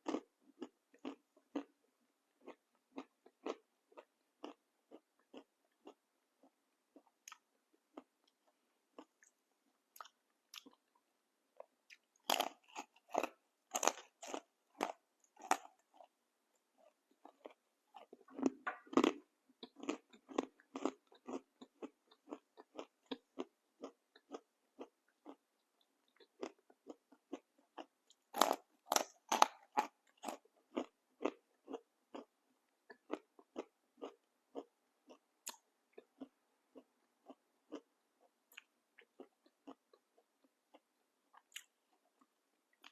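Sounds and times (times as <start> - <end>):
person chewing crunchy snack: 0.0 - 42.9.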